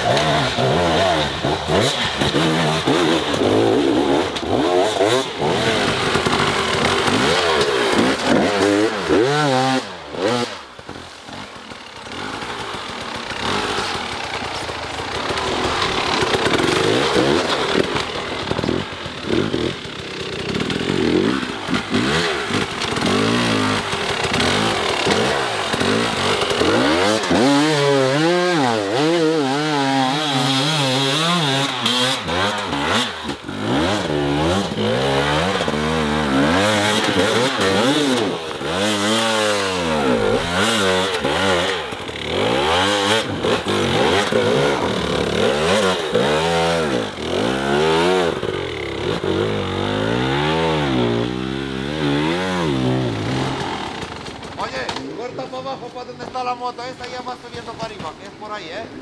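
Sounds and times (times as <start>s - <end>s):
dirt bike engine revving: 0.0s - 58.4s.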